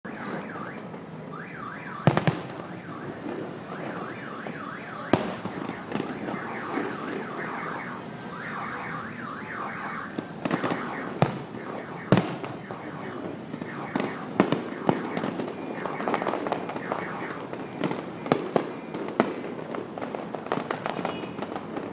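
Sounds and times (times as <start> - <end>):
car alarm wailing: 0.0 - 19.8
fireworks bangs: 0.1 - 21.9.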